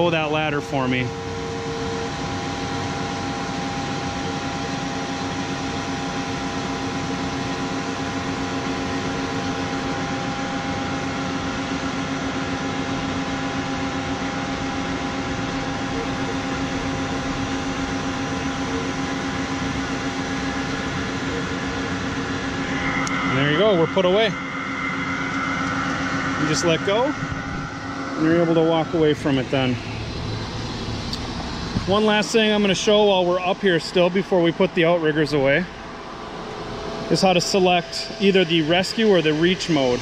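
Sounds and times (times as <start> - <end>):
hydraulic drive humming: 1.1 - 40.0.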